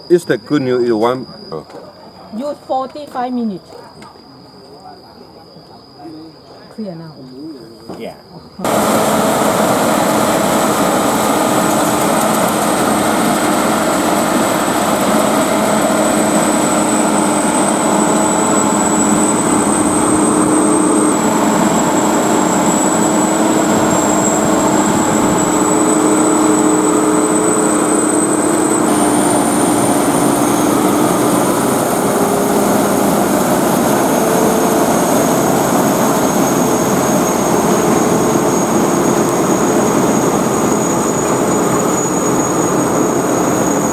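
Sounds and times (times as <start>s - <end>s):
combine harvester running: 8.6s - 43.9s
high machinery whine: 8.6s - 43.9s.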